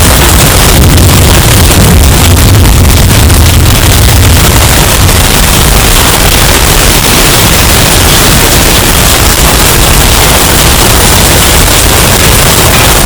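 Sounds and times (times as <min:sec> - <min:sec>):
distorted storm wind rush: 0:00.0 - 0:13.0.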